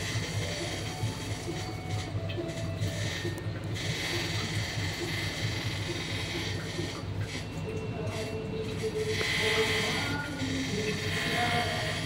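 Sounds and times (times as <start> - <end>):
mechanical hum with regular pulse: 0.0 - 12.0.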